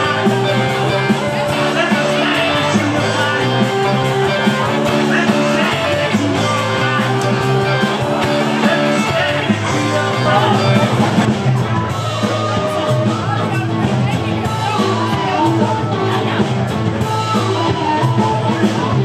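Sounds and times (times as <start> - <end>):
live rock music: 0.0 - 19.0
person singing: 0.0 - 19.0.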